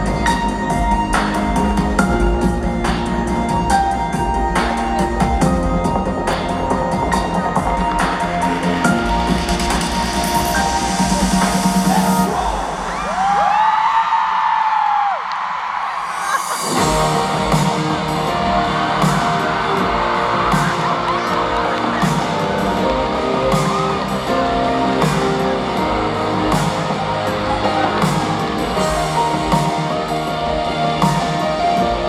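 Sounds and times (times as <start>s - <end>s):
live pop-rock band playing: 0.0s - 12.8s, 16.6s - 32.0s.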